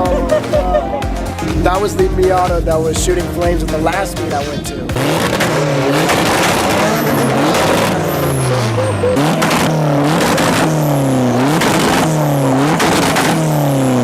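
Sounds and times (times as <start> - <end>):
car engine revving: 0.0 - 14.0
exhaust cracks: 1.2 - 14.0.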